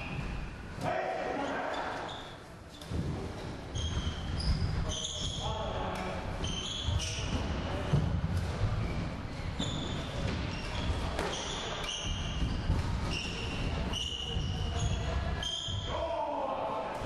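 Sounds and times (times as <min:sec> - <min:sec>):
shoes squeaking on wooden floor: 0:01.4 - 0:15.9.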